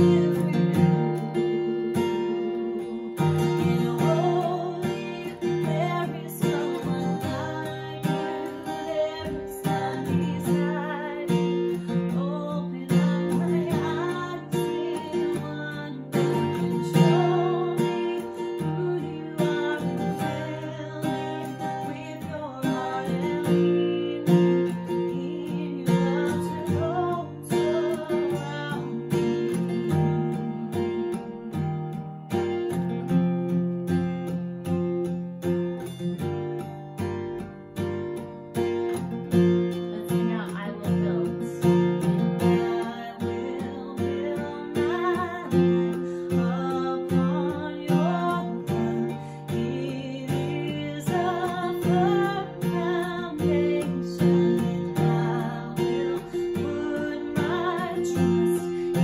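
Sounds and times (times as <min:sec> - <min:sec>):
strummed acoustic guitar: 0:00.0 - 0:59.0
woman singing: 0:00.0 - 0:59.0.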